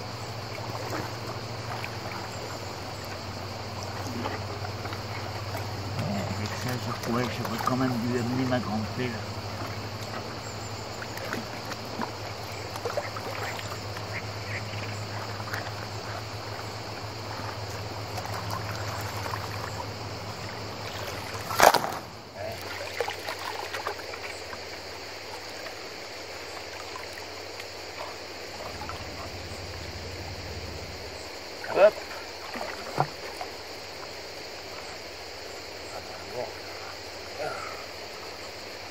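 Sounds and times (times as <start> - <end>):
river water splashing and trickling: 0.0 - 38.9.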